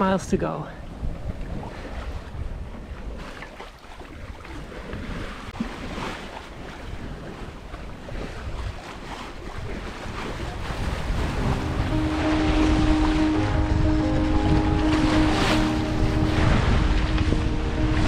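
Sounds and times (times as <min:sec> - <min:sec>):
water splashing along hull: 0:00.7 - 0:18.0
wind buffeting microphone: 0:00.8 - 0:03.4, 0:04.1 - 0:18.0.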